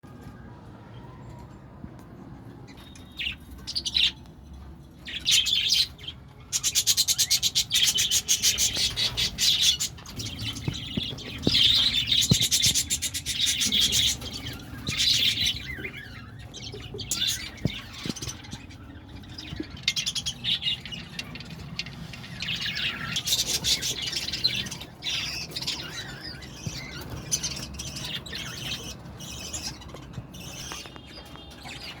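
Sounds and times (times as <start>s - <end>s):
budgerigars chattering and squawking: 5.1s - 32.0s.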